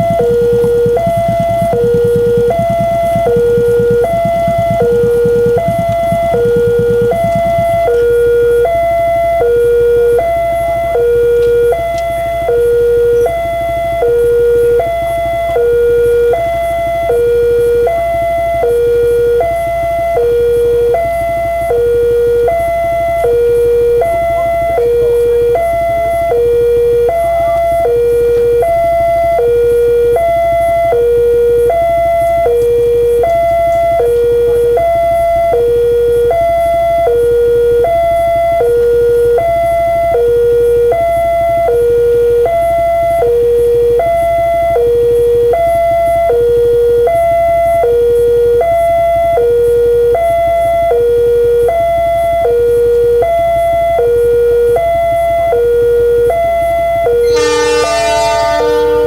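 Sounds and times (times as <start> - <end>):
two-tone level crossing alarm: 0.0 - 59.0.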